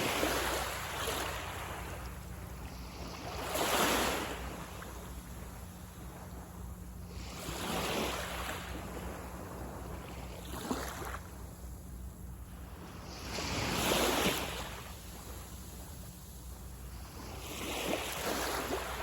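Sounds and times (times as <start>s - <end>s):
small waves breaking on beach: 0.0s - 11.7s, 12.5s - 19.0s.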